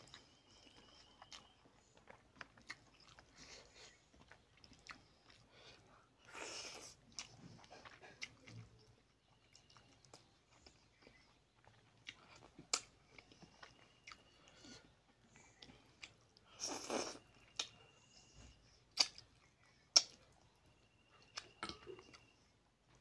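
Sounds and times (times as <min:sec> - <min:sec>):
man chewing wetly: 0:00.0 - 0:23.0.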